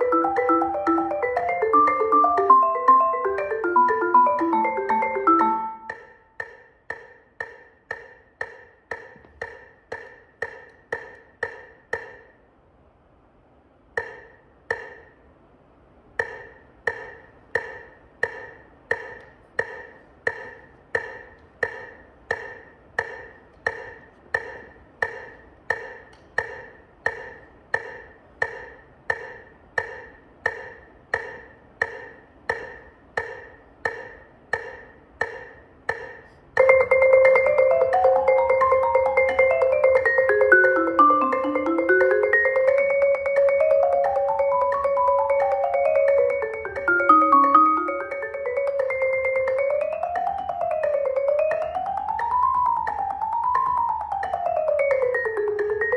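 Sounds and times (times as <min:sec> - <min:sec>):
metronome clicking: 0:00.0 - 0:12.3, 0:14.0 - 0:15.1, 0:16.2 - 0:36.0, 0:36.6 - 0:55.9.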